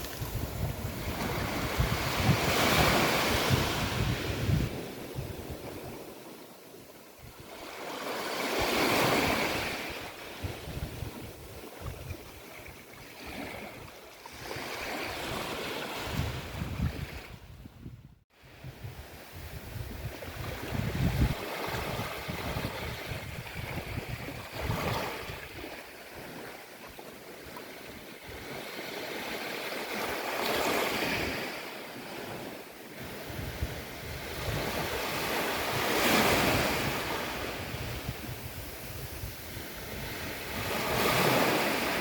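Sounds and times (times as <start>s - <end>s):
ocean waves breaking on a beach: 0.0s - 42.0s.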